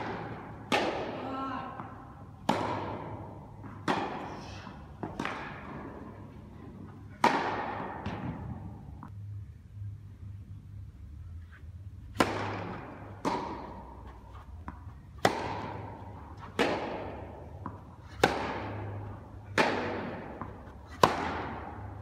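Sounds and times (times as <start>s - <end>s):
racket hitting tennis ball: 0.0s - 9.1s, 12.0s - 22.0s
tennis ball bouncing: 0.0s - 9.1s, 12.1s - 22.0s
steady low hum: 0.0s - 22.0s.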